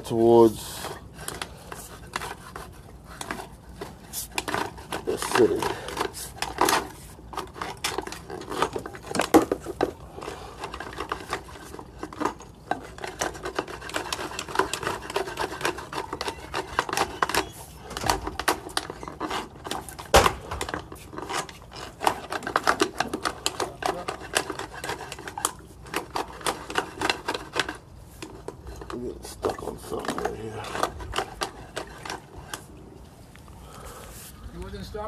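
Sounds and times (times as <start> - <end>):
cable clicking and scraping in drain: 0.0 - 33.8.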